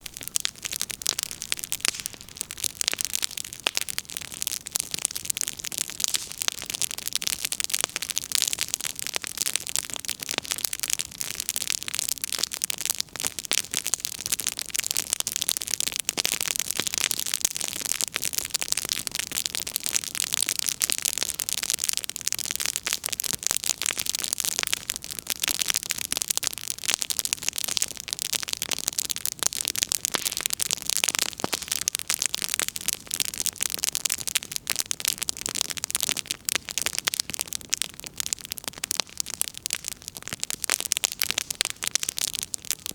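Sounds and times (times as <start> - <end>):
bonfire crackling: 0.0 - 42.9.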